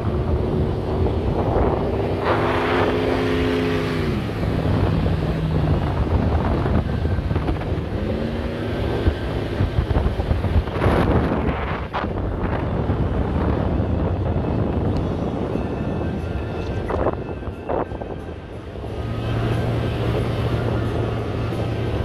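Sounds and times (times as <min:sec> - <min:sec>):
vehicle engines revving: 0:00.0 - 0:15.5, 0:18.4 - 0:22.0
wind buffeting microphone: 0:00.0 - 0:22.0.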